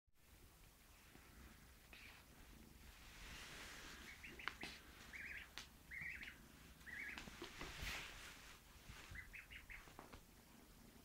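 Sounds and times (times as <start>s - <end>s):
light scratches and rustles: 1.0s - 5.4s, 6.0s - 10.6s.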